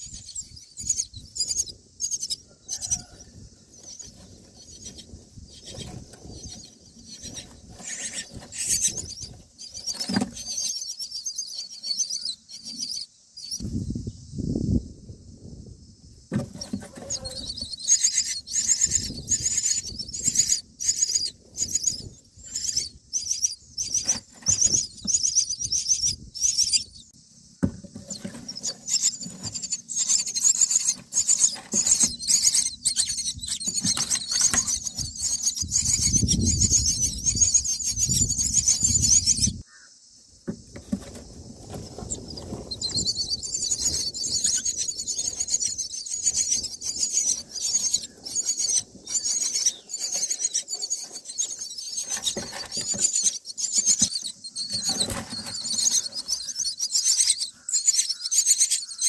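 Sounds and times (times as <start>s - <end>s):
nestlings begging calls: 0.0s - 13.6s, 16.6s - 27.1s, 28.0s - 39.9s, 41.0s - 59.0s.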